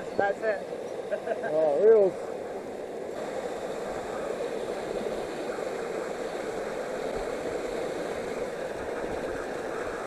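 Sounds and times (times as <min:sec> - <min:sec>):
waterfall pouring and splashing: 0:00.0 - 0:10.0.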